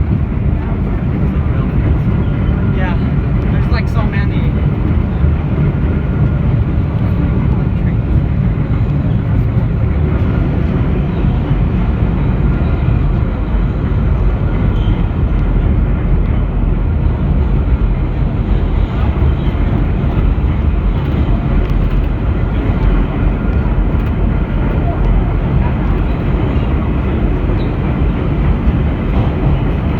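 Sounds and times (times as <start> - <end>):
subway car wheels rumbling on rail: 0.0 - 29.9.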